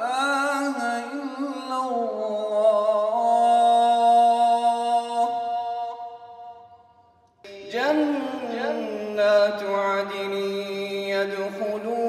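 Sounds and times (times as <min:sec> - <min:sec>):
man chanting into microphone: 0:00.0 - 0:06.0, 0:07.5 - 0:12.0.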